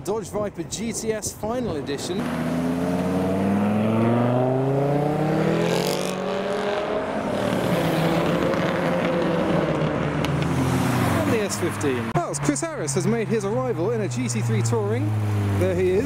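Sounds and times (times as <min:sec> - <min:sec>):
car engine accelerating: 0:02.2 - 0:16.0
car engine passing by: 0:02.2 - 0:16.0.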